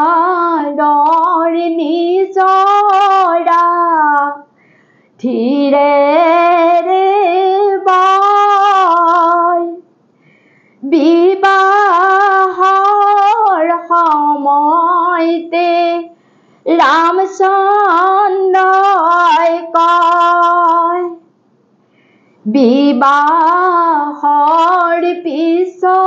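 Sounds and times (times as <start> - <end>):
woman singing unaccompanied: 0.0 - 4.6, 5.2 - 9.9, 10.8 - 21.3, 22.4 - 26.0.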